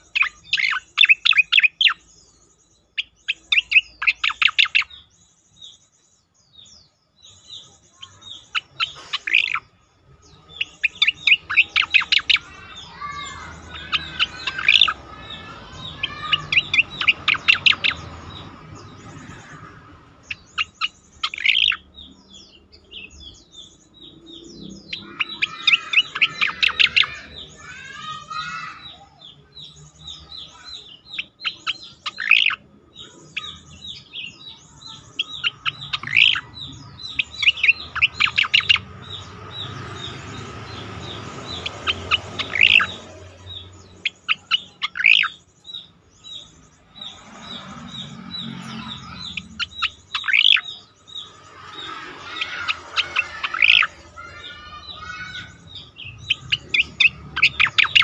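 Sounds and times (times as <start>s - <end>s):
bird song with warbling: 0.0s - 58.0s.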